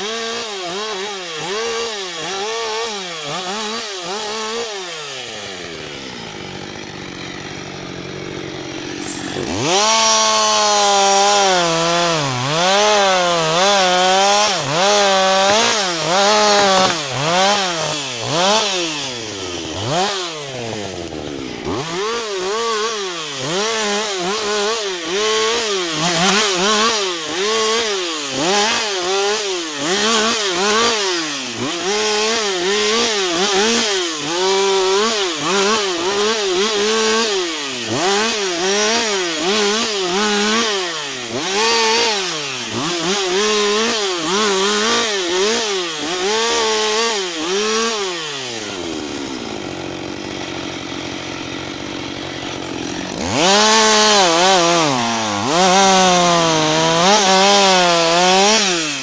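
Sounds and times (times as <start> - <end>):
chainsaw revving and cutting wood: 0.0 - 59.0.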